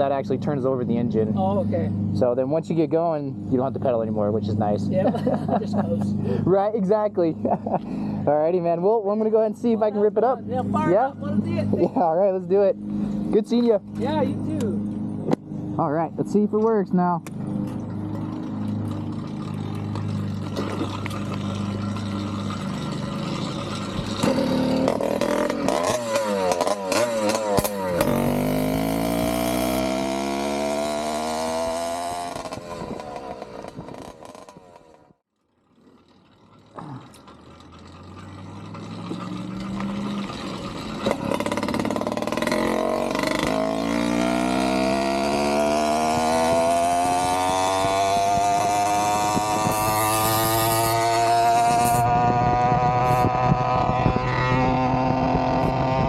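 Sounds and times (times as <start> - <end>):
two-stroke engine accelerating: 0.0 - 56.0.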